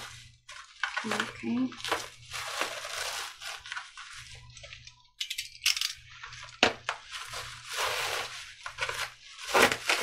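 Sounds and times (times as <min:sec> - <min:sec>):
bubble wrap crackles: 0:00.0 - 0:05.0, 0:06.0 - 0:10.0
bubble wrap crinkling: 0:00.0 - 0:05.0, 0:06.0 - 0:10.0.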